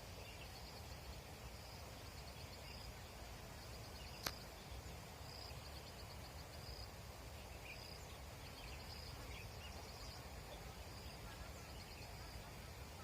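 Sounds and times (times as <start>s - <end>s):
birds trilling chirps: 0.0s - 13.0s
lower bird chirps: 0.0s - 13.0s.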